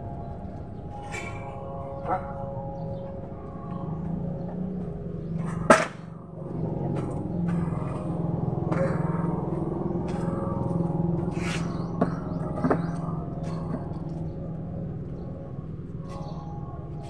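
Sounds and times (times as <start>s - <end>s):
engine idling: 1.7s - 17.0s.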